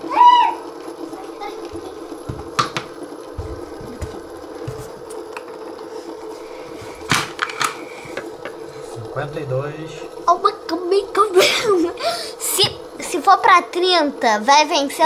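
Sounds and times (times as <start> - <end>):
fidget spinner whirring: 0.0 - 15.0.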